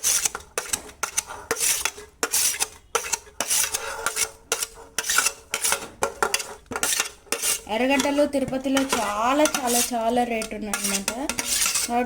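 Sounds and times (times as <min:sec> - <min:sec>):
spoon stirring puffed rice in pan: 0:00.0 - 0:12.0.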